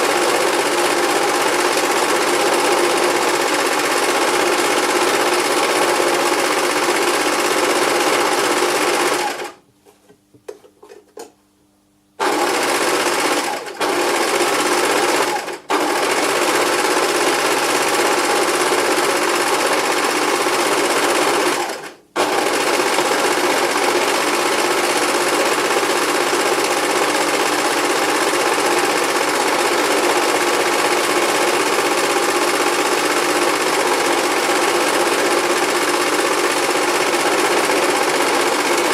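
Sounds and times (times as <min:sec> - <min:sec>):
electric sewing machine running: 0:00.0 - 0:09.6, 0:12.2 - 0:38.9.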